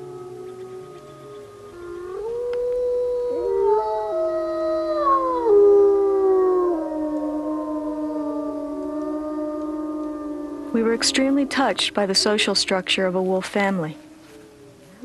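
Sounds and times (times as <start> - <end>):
wolves howling: 0.0 - 13.3.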